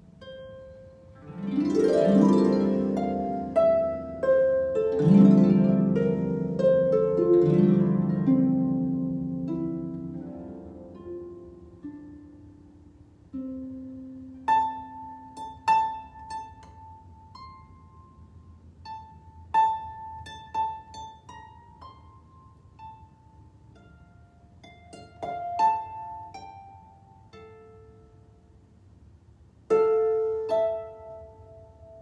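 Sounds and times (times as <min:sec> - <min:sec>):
solo harp plucked notes: 0:00.0 - 0:28.3, 0:29.7 - 0:32.0.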